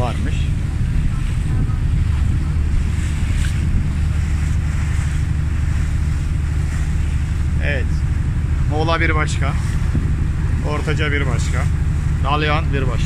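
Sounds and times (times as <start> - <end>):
boat engine running: 0.0 - 13.0
water rushing past hull: 0.0 - 13.0
wind buffeting microphone: 0.0 - 13.0.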